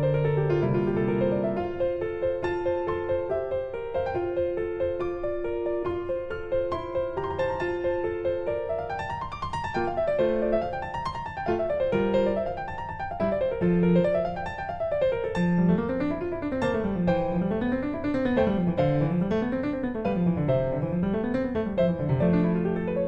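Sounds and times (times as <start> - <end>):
background piano music: 0.0 - 23.0.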